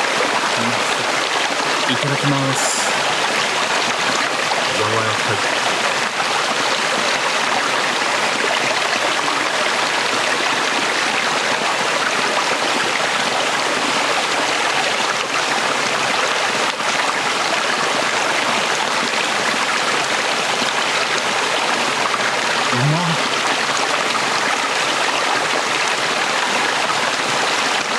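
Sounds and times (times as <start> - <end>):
stream babbling over rocks: 0.0 - 27.9.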